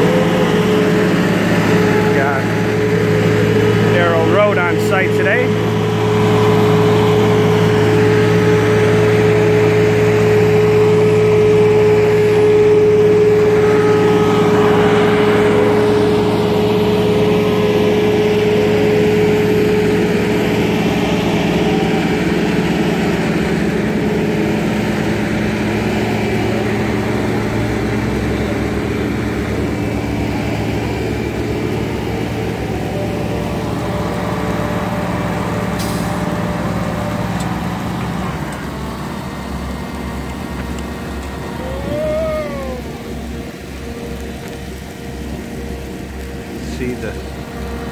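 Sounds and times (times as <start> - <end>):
steady high whine: 0.0 - 38.8
diesel engines running under load: 0.0 - 47.9.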